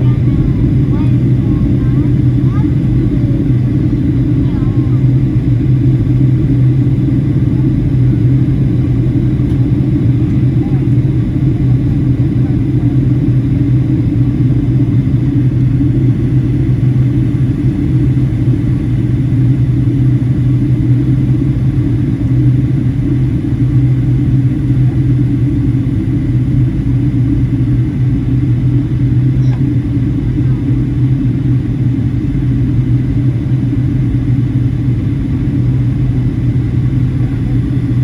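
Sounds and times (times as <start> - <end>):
jet airliner cabin drone: 0.0 - 38.0.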